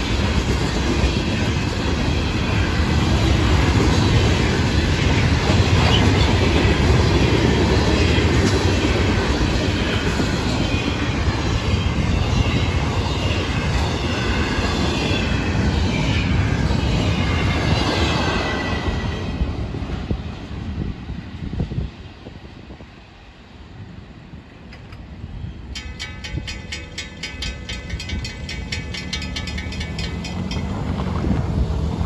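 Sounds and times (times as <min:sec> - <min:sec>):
freight train rumbling past: 0:00.0 - 0:32.0
faint train wheel squeal: 0:01.0 - 0:21.6, 0:24.1 - 0:31.6.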